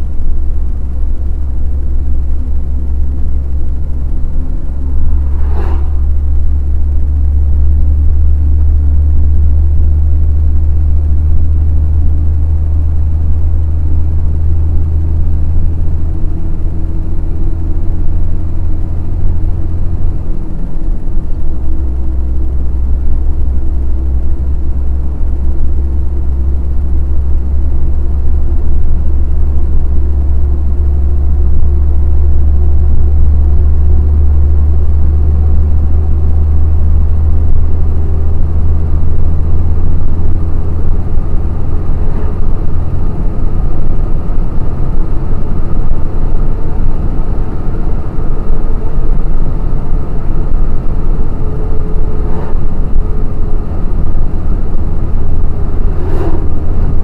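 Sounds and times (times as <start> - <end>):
road noise: 0.0 - 57.0
truck diesel engine rumble: 0.0 - 57.0.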